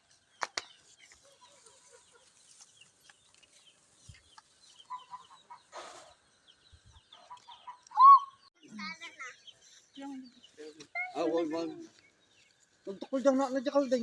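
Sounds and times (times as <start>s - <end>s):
chickens clucking: 0.6s - 12.5s.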